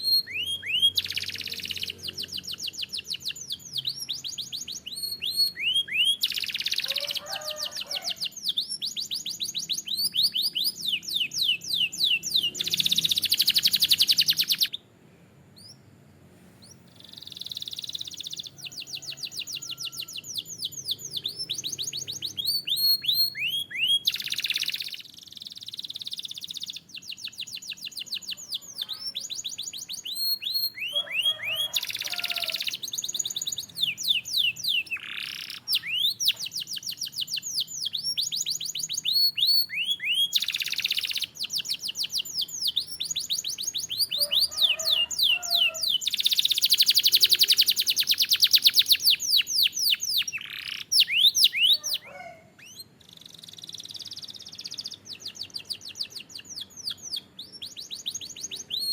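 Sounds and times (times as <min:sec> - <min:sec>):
canary singing trills: 0:00.0 - 0:14.9, 0:15.6 - 0:15.9, 0:16.6 - 0:58.9.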